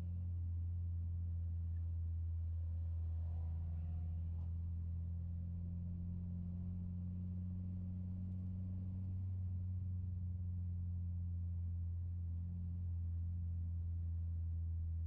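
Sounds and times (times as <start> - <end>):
car cabin engine drone: 0.0 - 15.0.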